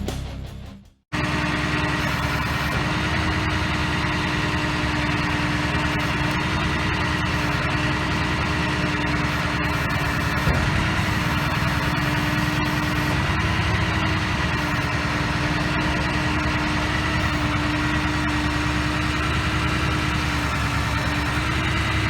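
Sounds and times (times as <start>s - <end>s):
steady whine: 1.1s - 22.0s
truck engine idling: 1.1s - 22.0s.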